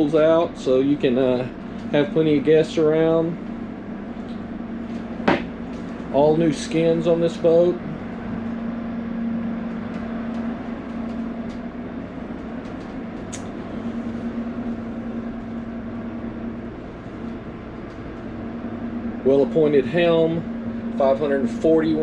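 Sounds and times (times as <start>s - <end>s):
boat machinery low hum: 0.0s - 22.0s.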